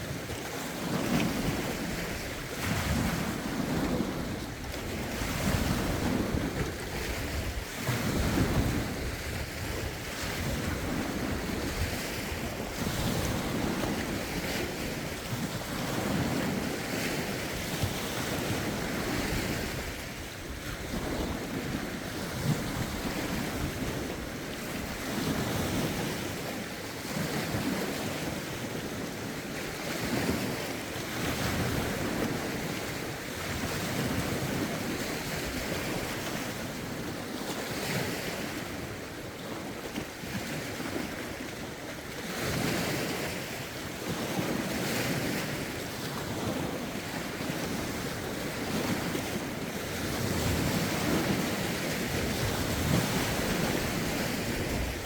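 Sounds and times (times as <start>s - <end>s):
wind buffeting microphone: 0.0s - 41.6s, 42.3s - 55.0s
lake waves washing in: 0.0s - 55.0s.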